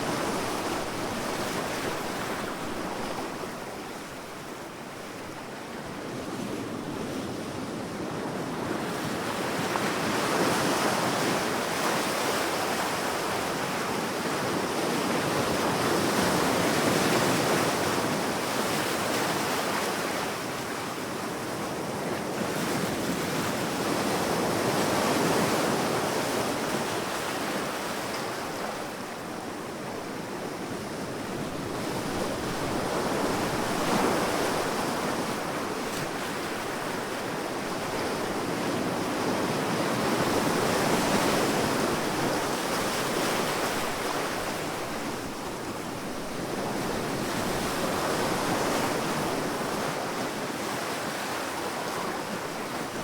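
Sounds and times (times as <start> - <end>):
waves washing onto shore: 0.0 - 53.0.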